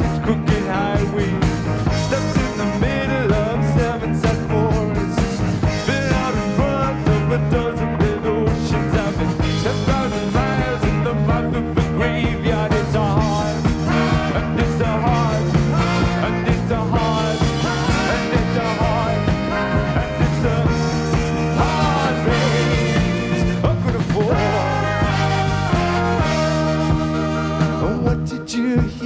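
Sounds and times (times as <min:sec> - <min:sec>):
male lead vocal: 0:00.0 - 0:29.0
rock band playing live: 0:00.0 - 0:29.0.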